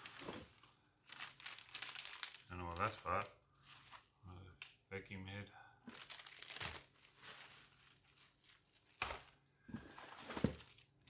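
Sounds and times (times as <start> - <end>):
plastic packaging rustling: 0.0 - 4.2, 5.9 - 11.0.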